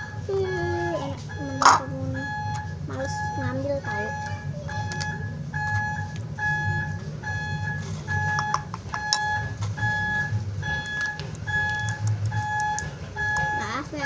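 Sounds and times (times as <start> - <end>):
electronic beeps: 0.0 - 13.8
low rumbling hum: 0.0 - 14.0.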